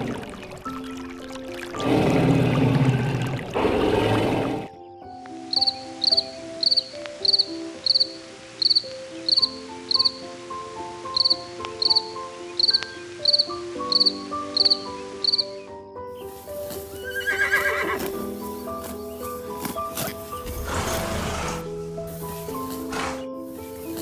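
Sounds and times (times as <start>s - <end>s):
gentle melodic music: 0.0s - 24.0s.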